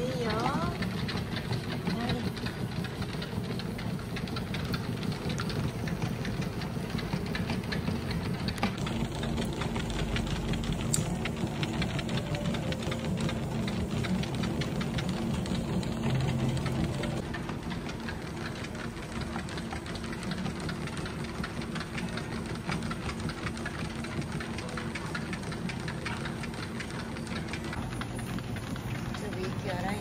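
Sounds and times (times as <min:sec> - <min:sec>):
fast dense ticking: 0:00.0 - 0:30.0
machine low hum: 0:00.0 - 0:30.0.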